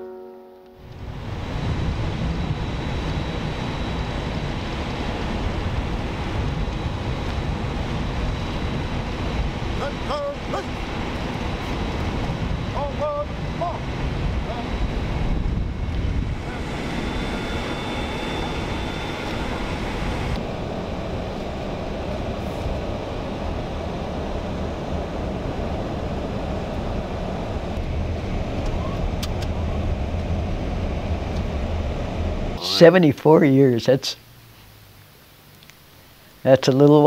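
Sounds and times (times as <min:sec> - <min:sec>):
wind noise on microphone: 0:00.8 - 0:32.6
road vehicles rumbling: 0:00.8 - 0:36.5.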